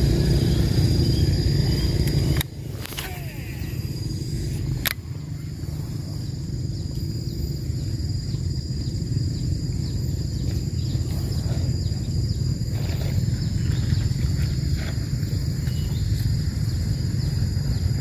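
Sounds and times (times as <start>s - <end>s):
high-pitched insect drone: 0.0s - 18.0s
low rumble: 0.0s - 18.0s.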